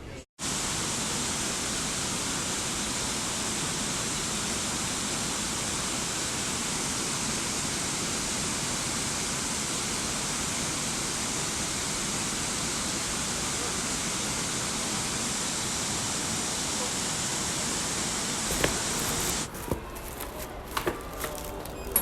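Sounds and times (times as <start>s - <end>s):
falling water rushing: 0.4s - 19.5s.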